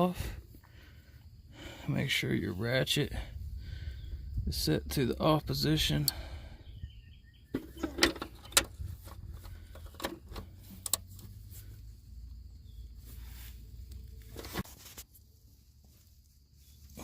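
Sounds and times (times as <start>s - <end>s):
low steady rumble: 0.3s - 14.5s.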